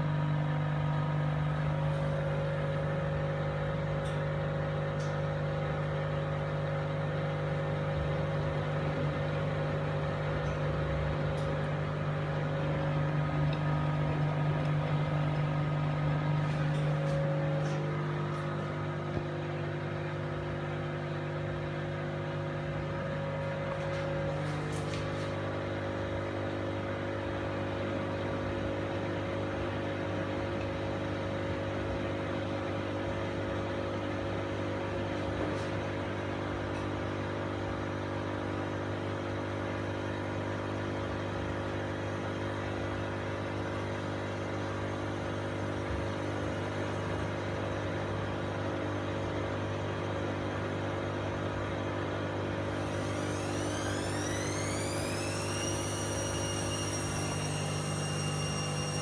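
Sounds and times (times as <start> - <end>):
washing machine motor humming: 0.0 - 59.0.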